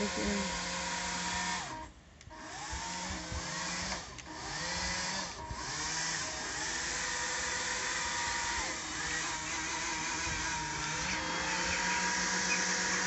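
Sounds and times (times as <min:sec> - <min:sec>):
electric propeller motors whirring: 0:00.0 - 0:13.0.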